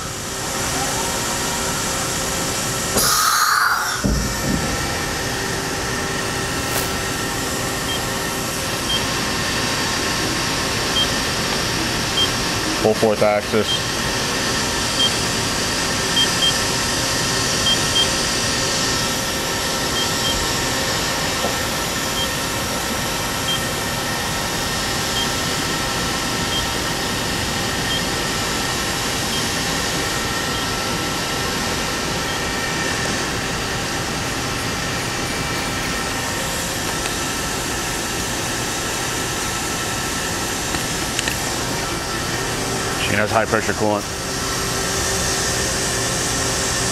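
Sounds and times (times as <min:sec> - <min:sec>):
machining center whirring: 0:00.0 - 0:46.9.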